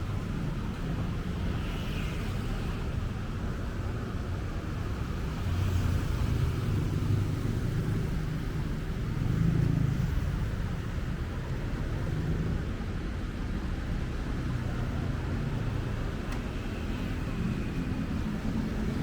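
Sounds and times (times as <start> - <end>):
road traffic rumble: 0.0 - 19.0
vehicles passing: 0.0 - 19.0.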